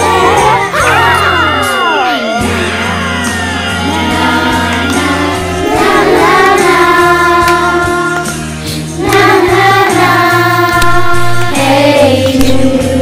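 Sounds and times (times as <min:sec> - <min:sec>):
children's choir singing: 0:00.0 - 0:01.0, 0:02.0 - 0:13.0
musical accompaniment: 0:00.0 - 0:13.0.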